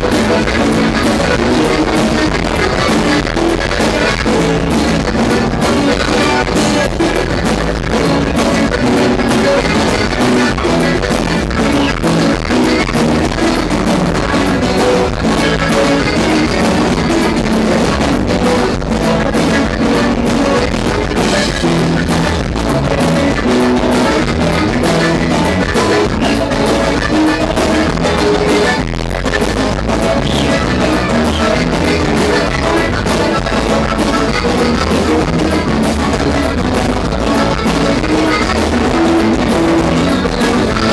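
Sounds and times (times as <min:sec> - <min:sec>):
live band with accordion: 0:00.0 - 0:40.9.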